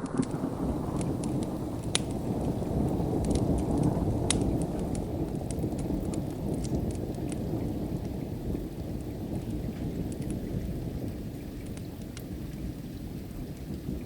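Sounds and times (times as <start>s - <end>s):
distant thunder rumbling: 0.0s - 14.0s
steady rain: 0.0s - 14.0s
wood fire crackling: 0.0s - 14.0s.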